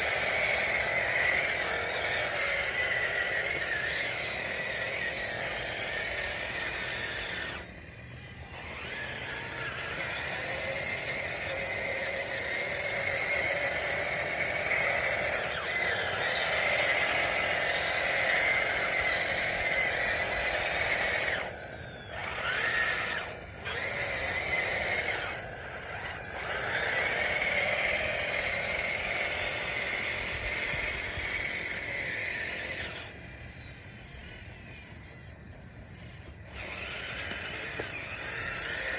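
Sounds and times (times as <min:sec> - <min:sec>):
electric motors whining: 0:00.0 - 0:38.9.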